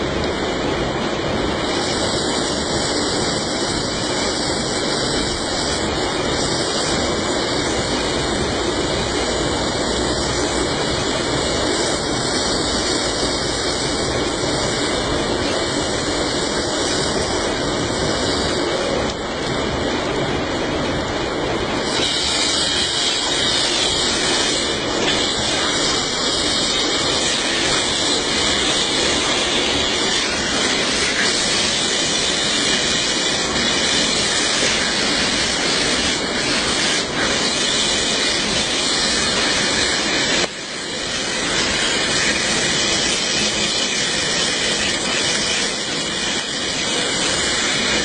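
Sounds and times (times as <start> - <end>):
rushing water hiss: 0.0 - 48.0.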